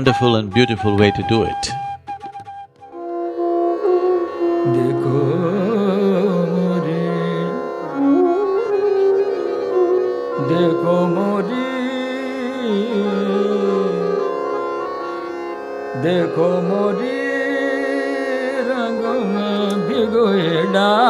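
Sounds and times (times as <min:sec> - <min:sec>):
sliding ornamented melodic line: 0:00.0 - 0:21.0.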